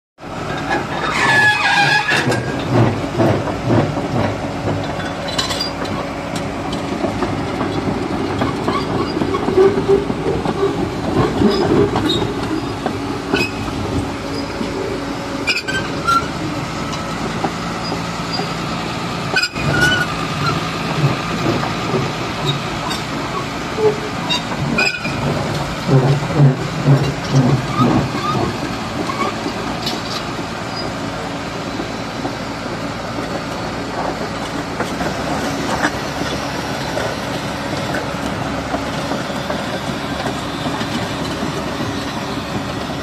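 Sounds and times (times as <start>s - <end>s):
diesel engine running: 0.2s - 43.0s
steel tracks clanking: 0.3s - 43.0s.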